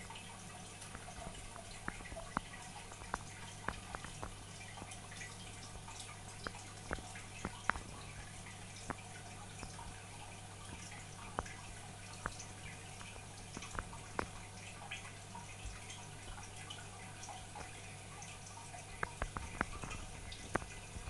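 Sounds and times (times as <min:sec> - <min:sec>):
aquarium bubbling: 0:00.0 - 0:21.0
steady low hum: 0:00.0 - 0:21.0
water dripping plinks: 0:00.0 - 0:21.0.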